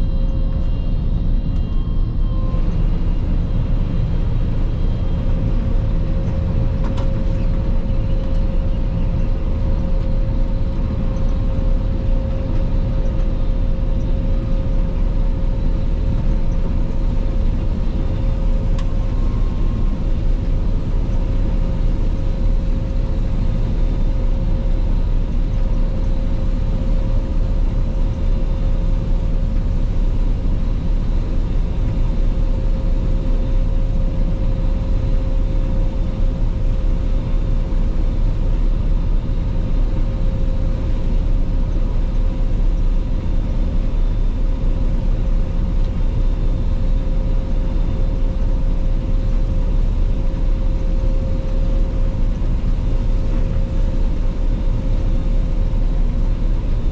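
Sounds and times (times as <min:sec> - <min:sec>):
combine harvester engine drone: 0:00.0 - 0:56.9
steady machine whine: 0:00.0 - 0:56.9.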